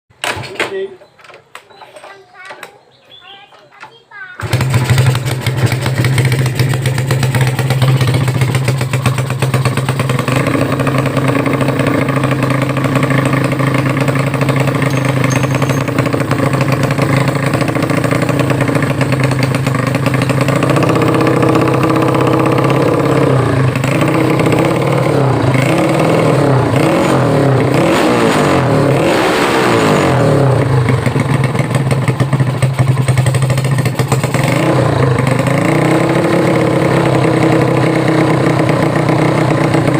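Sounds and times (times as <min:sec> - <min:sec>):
motorcycle engine idling and revving: 0:04.4 - 0:39.9.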